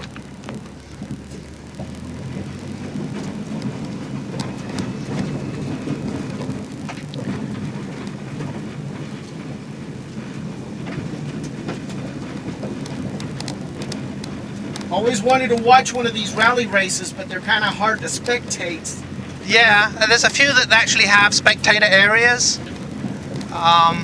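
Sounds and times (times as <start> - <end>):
car engine running from inside: 0.0 - 24.0
patter and ticks on car body: 0.0 - 24.0.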